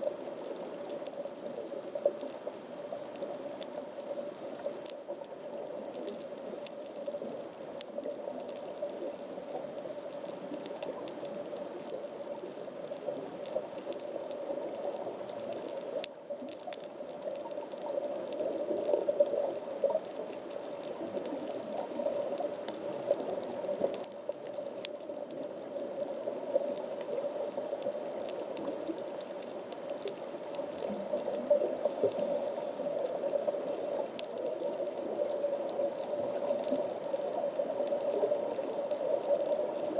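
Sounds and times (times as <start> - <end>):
faint crackling clicks: 0.0 - 39.9.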